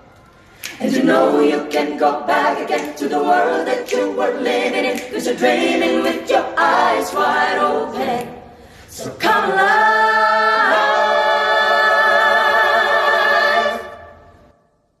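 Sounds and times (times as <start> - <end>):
a cappella group singing harmony: 0.4 - 14.7.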